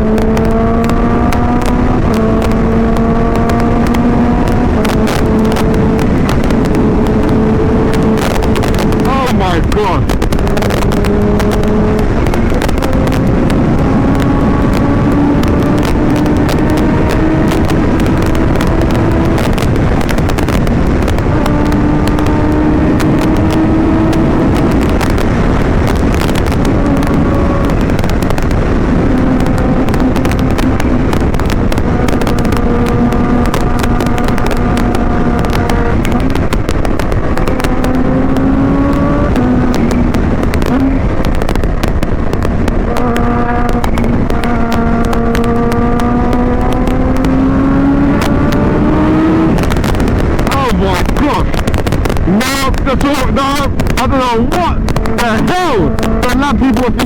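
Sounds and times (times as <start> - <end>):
exhaust cracks: 0.0 - 57.0
motorcycle engine accelerating: 0.0 - 57.0
wind rumble on microphone: 0.0 - 57.0.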